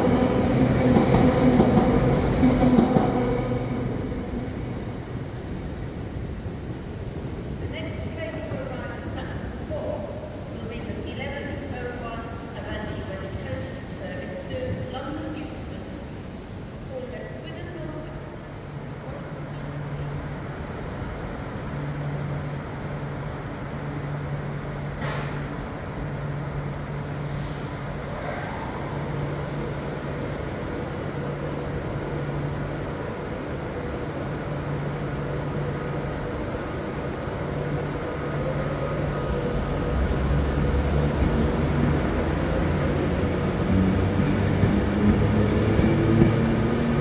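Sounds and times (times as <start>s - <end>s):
train rumbling: 0.0s - 47.0s.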